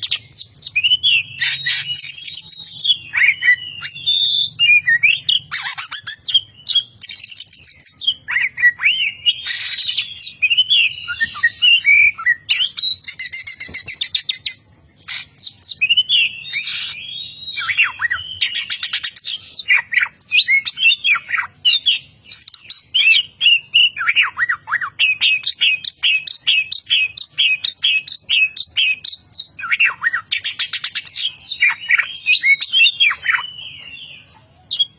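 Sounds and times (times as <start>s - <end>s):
songbird singing varied song: 0.0s - 34.9s.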